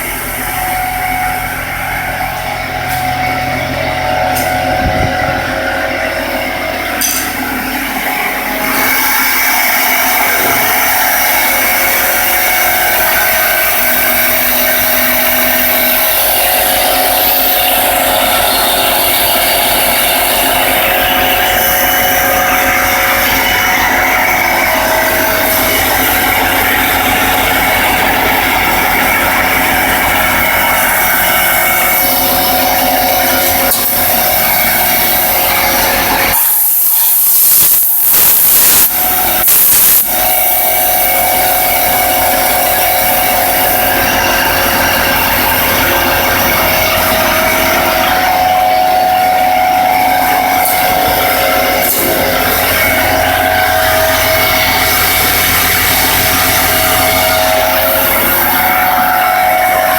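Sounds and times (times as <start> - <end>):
mill spindle whine: 0.0 - 59.9.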